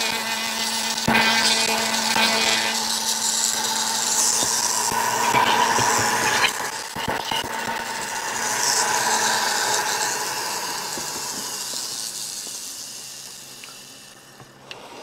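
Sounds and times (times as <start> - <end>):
rotary grinder whine: 0.0 - 15.0.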